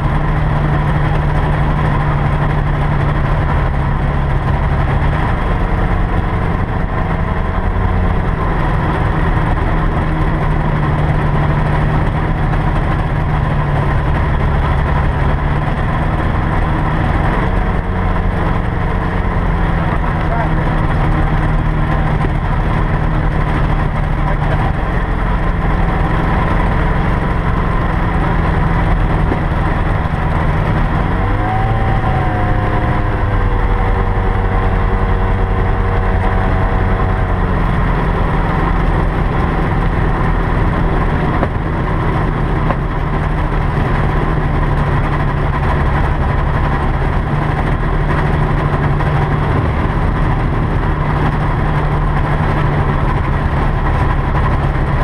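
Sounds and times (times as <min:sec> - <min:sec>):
propeller engine running: 0:00.0 - 0:55.0.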